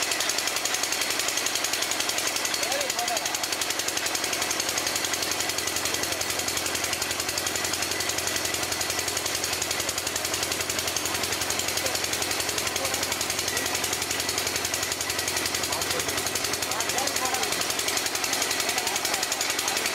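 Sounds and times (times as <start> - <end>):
drilling machine hammering: 0.0 - 19.9.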